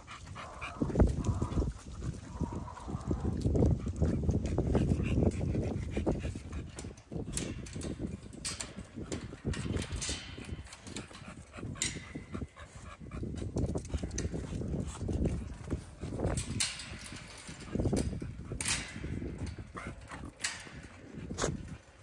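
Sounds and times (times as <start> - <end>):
dogs barking and whining: 0.0 - 22.0.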